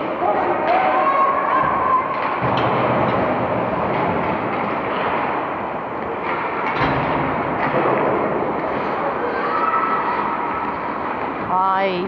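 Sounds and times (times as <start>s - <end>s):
echoing ice rink noise: 0.0s - 12.0s.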